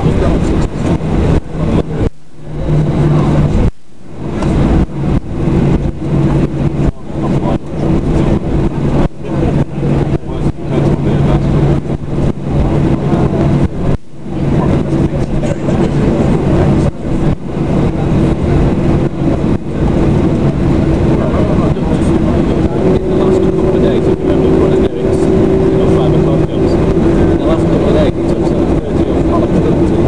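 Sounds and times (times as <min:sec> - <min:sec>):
jet engines roaring in cabin: 0:00.0 - 0:30.0.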